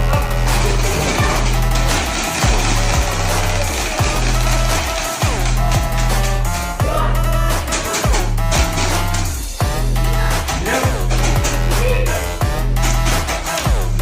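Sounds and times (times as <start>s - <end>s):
heavy bass beat music: 0.0s - 14.0s.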